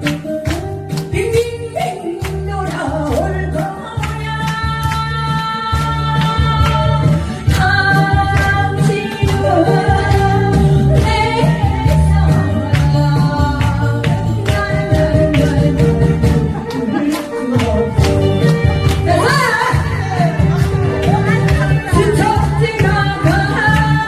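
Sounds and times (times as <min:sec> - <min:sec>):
person singing over backing track: 0:00.0 - 0:24.0.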